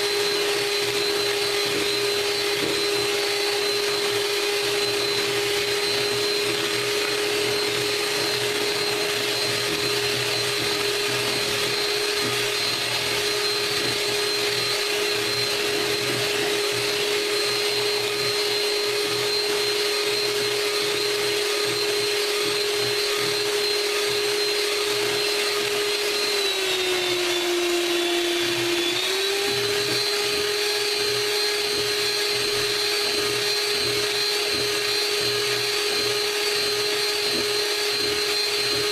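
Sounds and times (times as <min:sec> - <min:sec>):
electric hand mixer whisking: 0:00.0 - 0:38.9.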